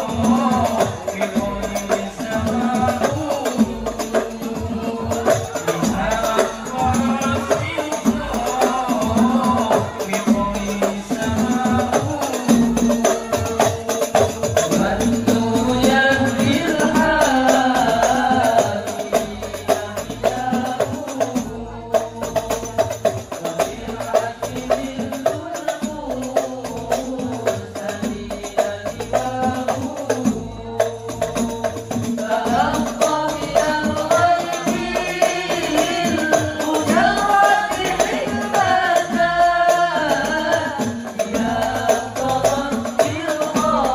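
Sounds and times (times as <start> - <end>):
bass drum: 0.0 - 43.9
frame drums beating: 0.0 - 43.9
men singing a devotional song: 0.0 - 43.9.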